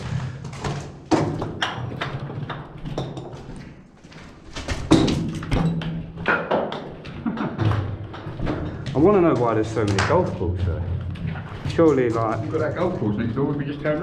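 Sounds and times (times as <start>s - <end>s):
knocks and scuffs: 0.0s - 14.0s.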